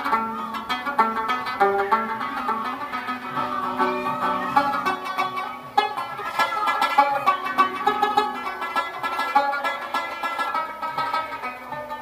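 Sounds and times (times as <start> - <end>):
rubab plucked and strummed: 0.0 - 12.0.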